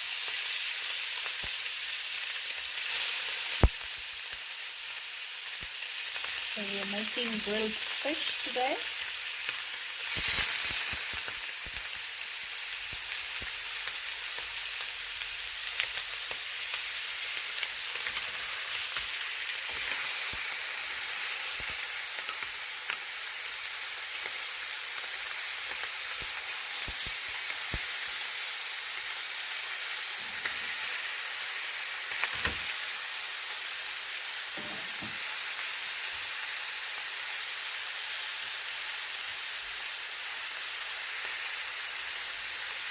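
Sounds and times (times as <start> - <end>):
fish sizzling in a frying pan: 0.0 - 42.9.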